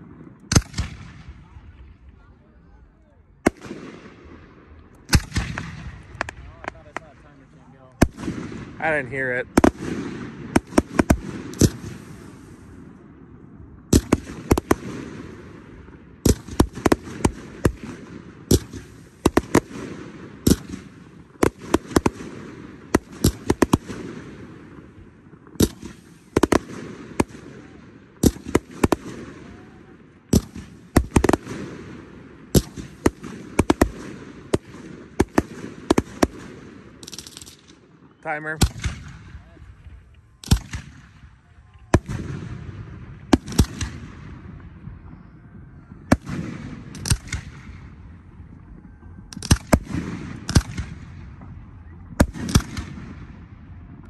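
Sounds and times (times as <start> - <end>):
fireworks bangs and pops: 0.0 - 2.2, 3.4 - 7.3, 7.9 - 13.2, 13.8 - 54.0.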